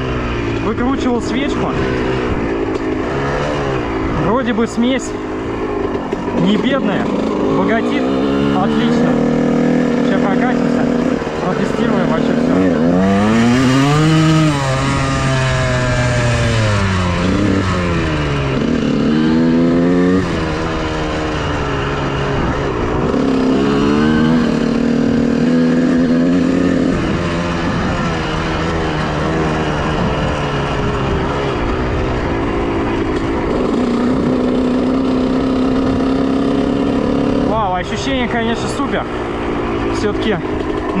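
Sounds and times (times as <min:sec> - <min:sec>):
two-stroke motorcycle engine revving: 0:00.0 - 0:41.0.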